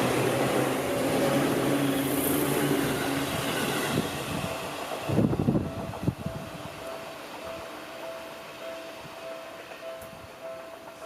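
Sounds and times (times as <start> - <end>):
electric train rumbling past: 0.0 - 11.0
crossing alarm tone: 1.8 - 11.0.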